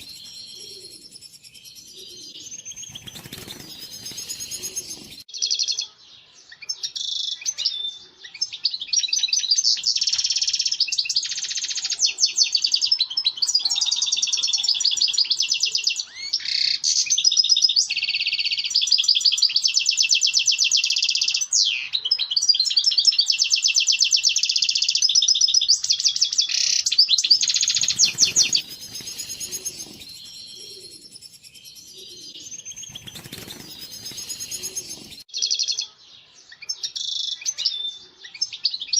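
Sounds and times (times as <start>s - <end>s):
goldfinch twittering and trills: 0.0s - 6.0s, 6.6s - 38.9s.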